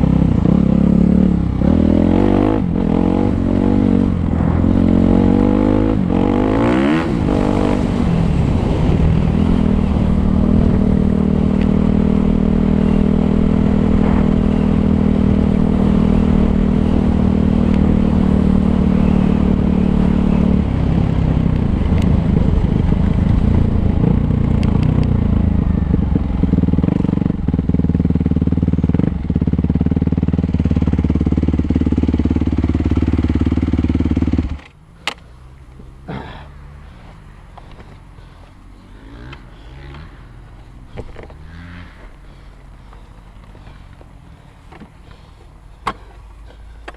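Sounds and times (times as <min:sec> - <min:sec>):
motocross bike engine revving: 0:00.0 - 0:21.4, 0:23.6 - 0:46.9.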